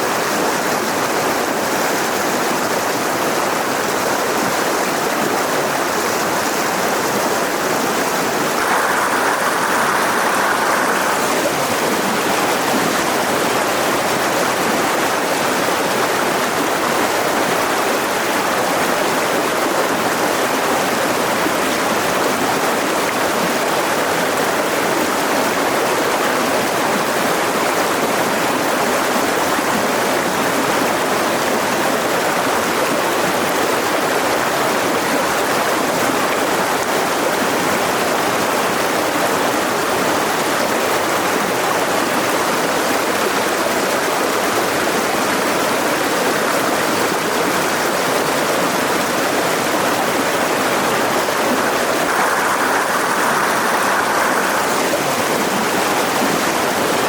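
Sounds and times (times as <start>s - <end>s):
river running over rocks: 0.0s - 57.0s.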